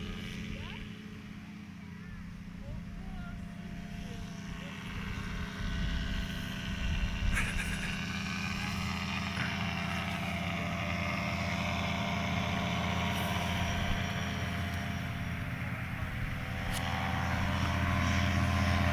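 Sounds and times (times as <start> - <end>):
engine humming steadily: 0.0 - 18.9.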